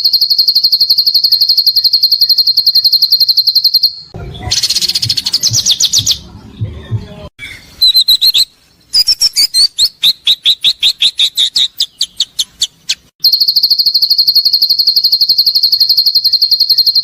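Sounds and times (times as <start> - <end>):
bird fast trill: 0.0 - 6.2, 7.5 - 17.0
songbird harsh repeated calls: 0.0 - 6.2, 7.4 - 17.0.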